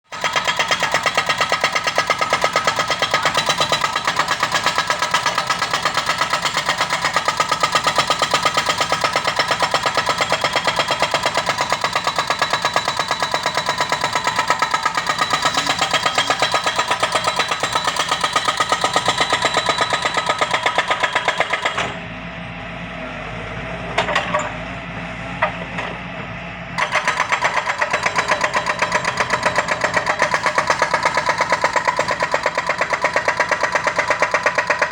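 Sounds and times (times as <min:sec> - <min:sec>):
hydraulic rock breaker hammering: 0:00.1 - 0:22.0, 0:26.8 - 0:34.9
diesel engine running: 0:00.2 - 0:34.9.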